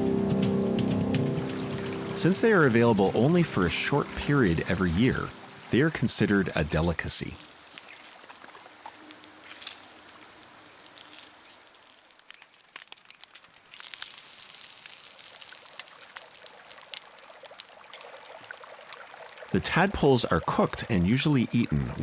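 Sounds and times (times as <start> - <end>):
water trickling and splashing: 1.2 - 22.0.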